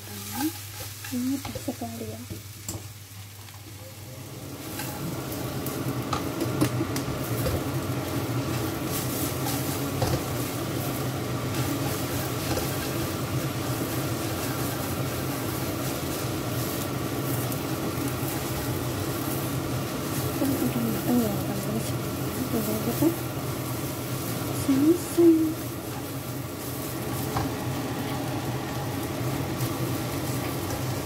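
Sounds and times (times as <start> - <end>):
food sizzling in frying pan: 0.0 - 31.0.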